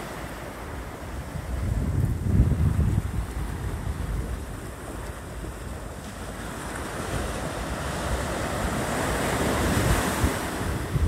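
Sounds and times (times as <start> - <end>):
surf breaking and washing up: 0.0 - 11.0
wind rumble on microphone: 0.0 - 11.0.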